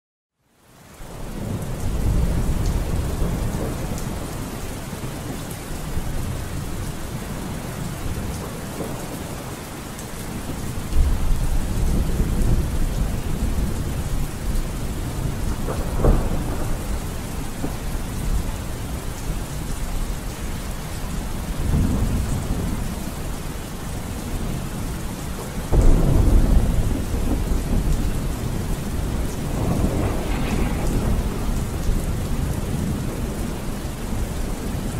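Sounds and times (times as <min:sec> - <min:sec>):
steady rain: 0:00.4 - 0:34.9
low rolling thunder: 0:01.1 - 0:34.9.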